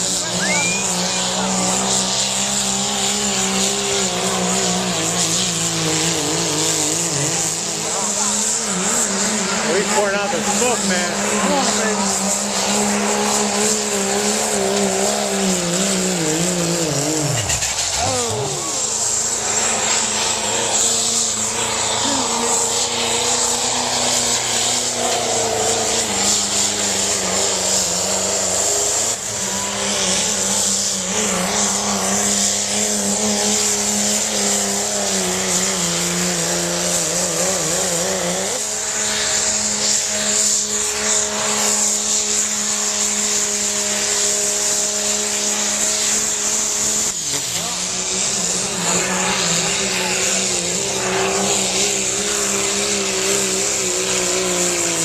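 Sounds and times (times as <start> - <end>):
tractor engine under full load: 0.0 - 55.0.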